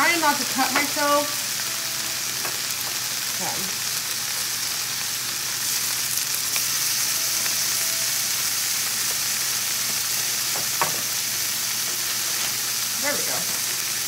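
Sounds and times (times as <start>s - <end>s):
ham sizzling in a frying pan: 0.0s - 14.0s.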